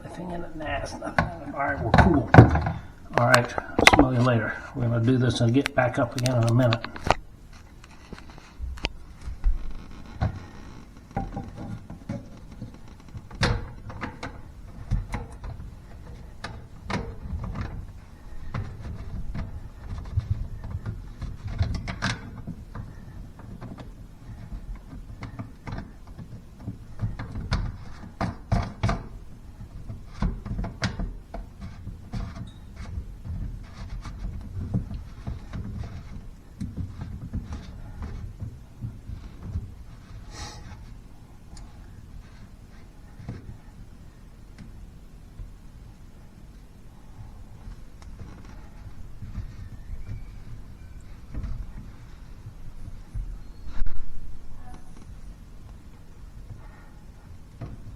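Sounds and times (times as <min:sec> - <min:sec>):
plumbing parts clunking: 0:00.0 - 0:53.4
rustling: 0:00.0 - 0:57.9.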